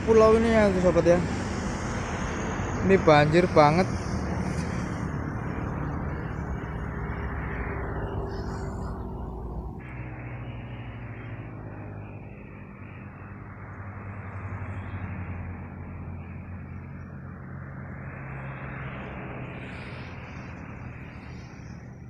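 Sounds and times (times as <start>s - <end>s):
low engine hum: 0.0s - 22.0s
rushing noise: 0.0s - 22.0s.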